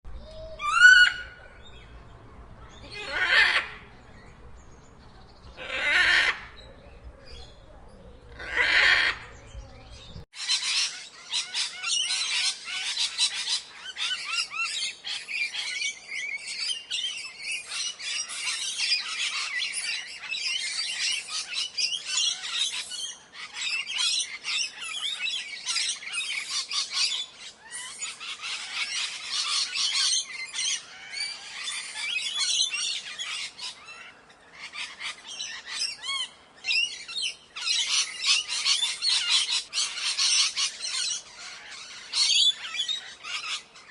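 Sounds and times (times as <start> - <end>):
parrot squawks and chirps: 0.4 - 1.4, 2.8 - 3.9, 5.6 - 6.7, 8.3 - 9.4, 10.4 - 43.9.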